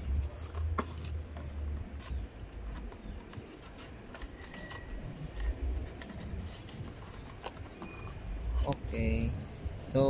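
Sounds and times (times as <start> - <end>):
cardboard and paper packaging handled: 0.0 - 9.9.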